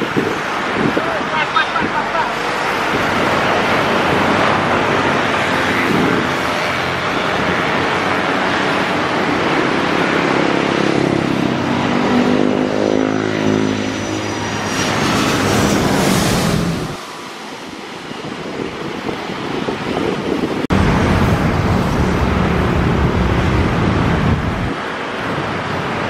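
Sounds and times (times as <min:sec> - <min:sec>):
high engine whine: 0:00.0 - 0:26.0
jet airliner engine rush: 0:00.0 - 0:26.0.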